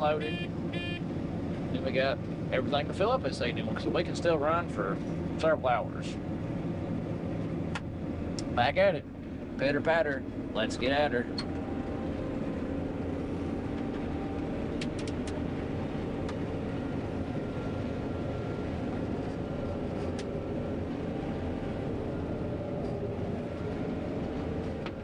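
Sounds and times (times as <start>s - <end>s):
combine machine hum: 0.0s - 25.0s.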